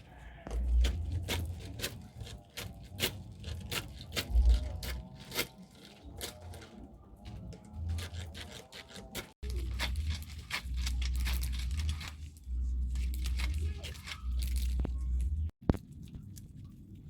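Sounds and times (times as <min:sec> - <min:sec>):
corn kernels clicking and rattling: 0:00.6 - 0:15.4.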